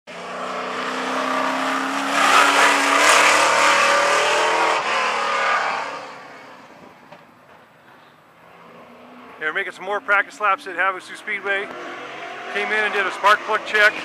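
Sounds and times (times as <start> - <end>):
race car engine at speed: 0.1 - 7.6, 8.4 - 14.0.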